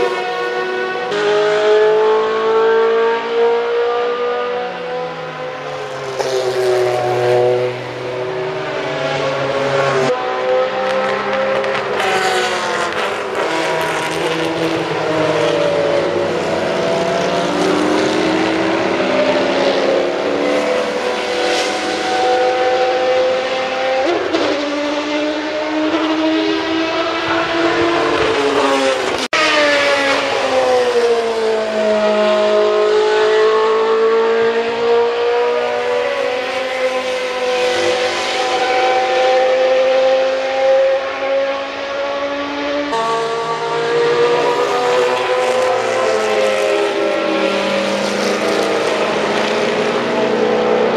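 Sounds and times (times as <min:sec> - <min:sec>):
race cars at speed: 0:00.0 - 0:50.9.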